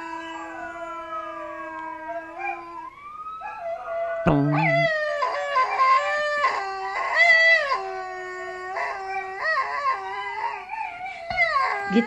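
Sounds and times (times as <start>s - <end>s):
dog howling through phone speaker: 0.0s - 12.0s.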